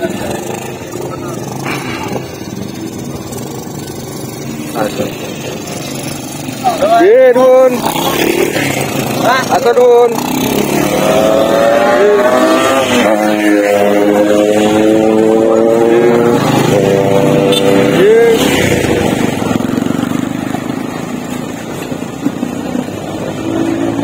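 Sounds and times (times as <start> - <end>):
motorcycle engines at low speed: 0.0 - 24.0.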